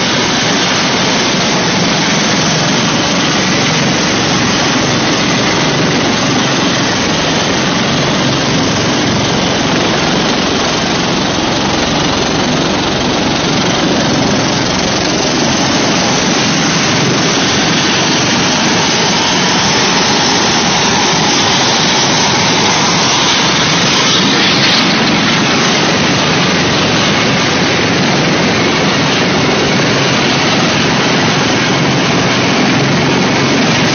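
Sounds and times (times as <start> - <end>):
aircraft engine roar overhead: 0.0 - 33.9.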